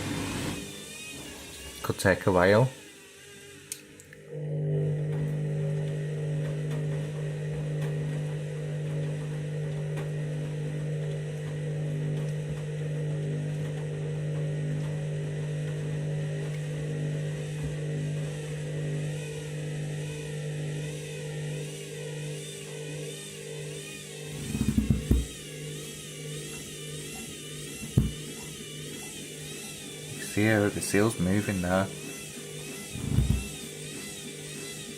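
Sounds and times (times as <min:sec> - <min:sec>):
washing machine motor humming: 0:00.0 - 0:34.9
wavering whine: 0:04.2 - 0:34.9.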